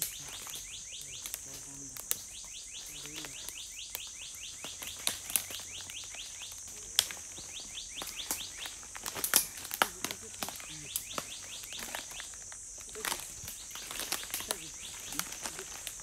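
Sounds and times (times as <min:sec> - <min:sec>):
birds chirping: 0:00.0 - 0:16.0
high-pitched insect drone: 0:00.0 - 0:16.0.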